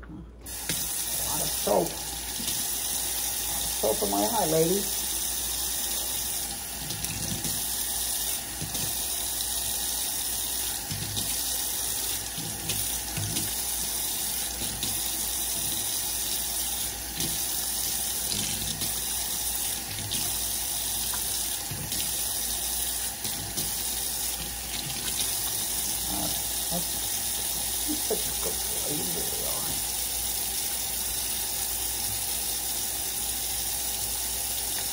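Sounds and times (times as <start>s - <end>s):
faucet running into metal sink: 0.4s - 34.9s.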